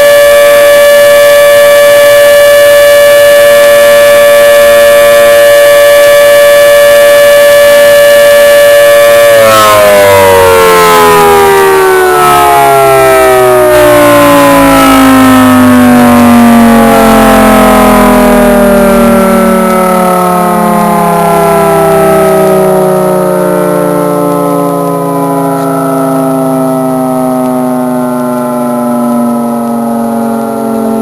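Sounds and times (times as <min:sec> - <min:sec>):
dual-tone warning siren winding down: 0:00.0 - 0:31.0.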